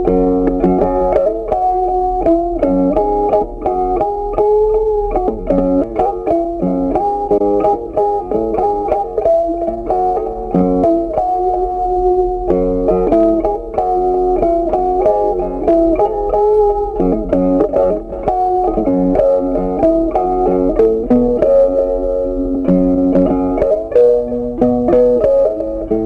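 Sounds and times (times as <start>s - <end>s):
plucked guitar melody: 0.0s - 26.0s.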